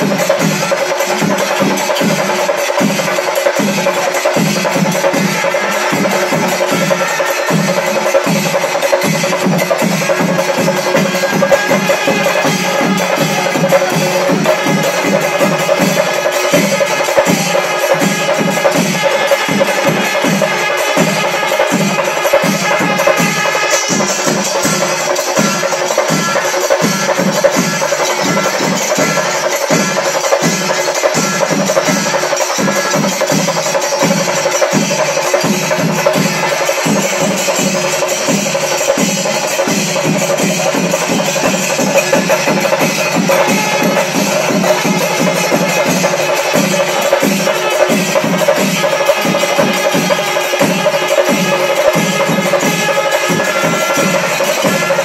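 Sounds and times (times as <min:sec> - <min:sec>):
cymbals: 0:00.0 - 0:55.0
drums beating fast rhythm: 0:00.0 - 0:55.0
pipes and horns holding notes: 0:05.2 - 0:55.0.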